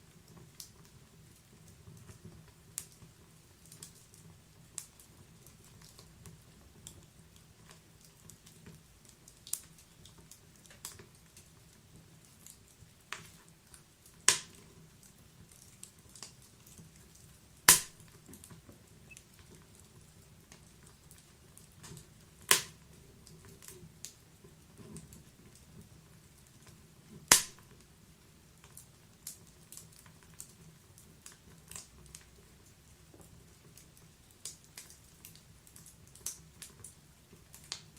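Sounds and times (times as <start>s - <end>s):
fire popping and snapping: 0.0s - 37.9s
wood fire crackling: 0.0s - 37.9s.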